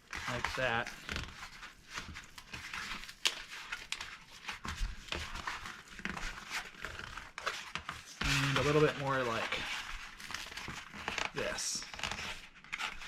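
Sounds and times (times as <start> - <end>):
cardboard crinkling and creaking: 0.0 - 13.0.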